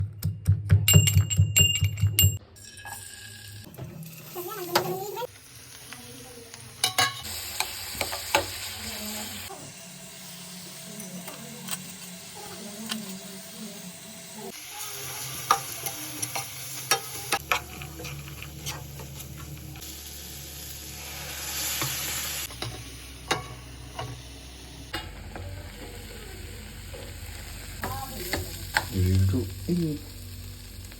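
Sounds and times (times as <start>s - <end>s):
food sizzling in a pan: 2.6s - 30.9s.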